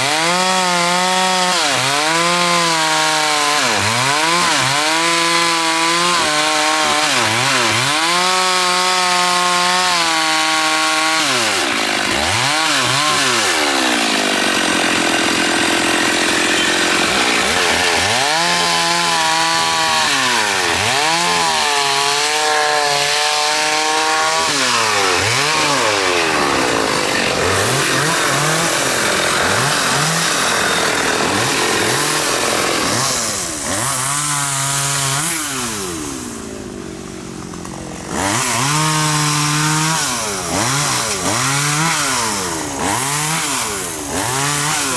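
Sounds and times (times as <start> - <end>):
chainsaw revving and cutting wood: 0.0 - 44.9.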